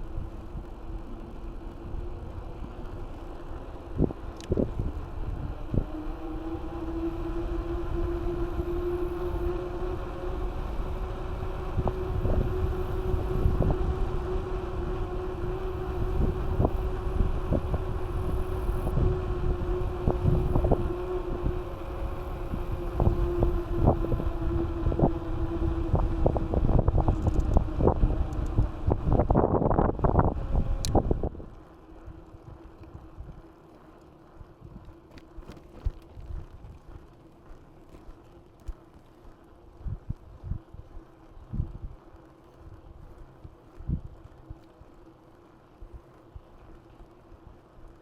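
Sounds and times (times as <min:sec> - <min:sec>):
wind buffeting microphone: 0:00.0 - 0:33.6, 0:39.6 - 0:45.0
bike humming: 0:00.0 - 0:48.0.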